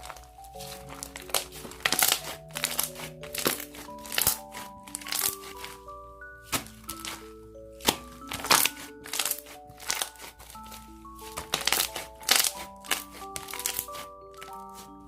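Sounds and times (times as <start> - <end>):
slime crackling and popping: 0.0 - 14.9
music-box tune: 0.0 - 15.0.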